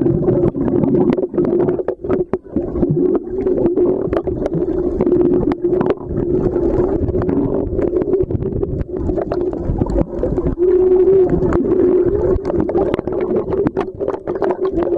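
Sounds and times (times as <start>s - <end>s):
muffled underwater hum: 0.0s - 14.9s
sharp clicks and pops: 0.3s - 6.2s, 7.1s - 10.6s, 11.2s - 14.9s.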